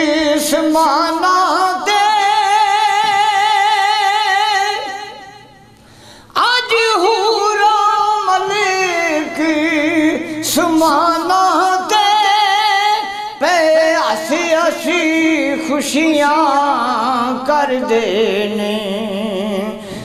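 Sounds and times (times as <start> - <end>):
man singing in high voice: 0.0 - 5.6, 6.3 - 20.0.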